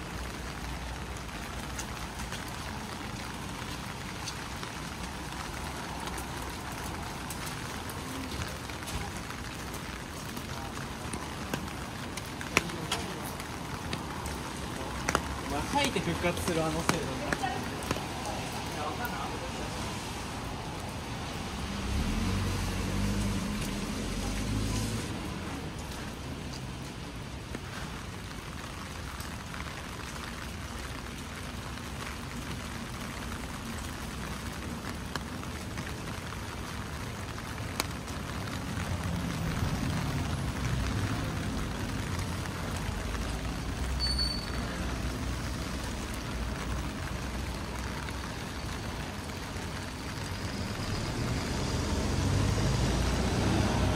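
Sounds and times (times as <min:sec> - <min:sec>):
rain falling on street: 0:00.0 - 0:53.9
vehicles passing slowly: 0:00.0 - 0:53.9.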